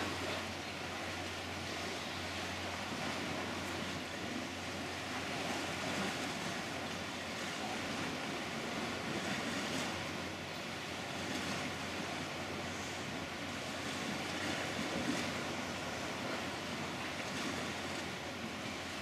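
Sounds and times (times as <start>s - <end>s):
sea washing against rocks: 0.0s - 19.0s.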